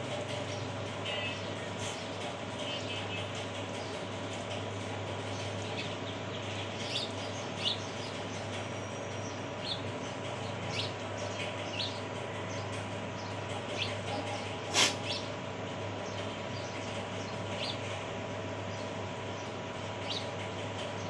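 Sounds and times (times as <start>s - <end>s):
small birds chirping: 0.2s - 21.0s.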